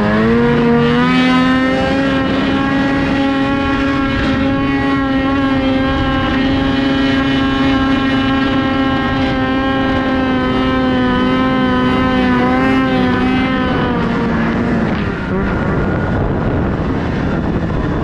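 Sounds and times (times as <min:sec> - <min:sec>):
snowmobile engine droning: 0:00.0 - 0:18.0.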